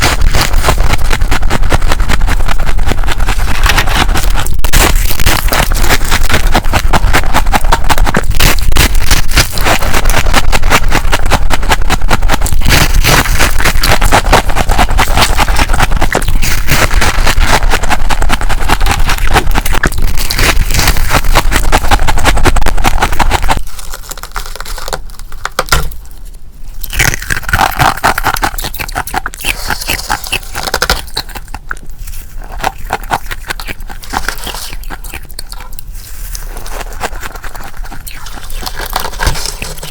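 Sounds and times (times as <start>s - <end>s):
frost being scraped and crunched: 0.0s - 25.6s, 26.7s - 39.9s.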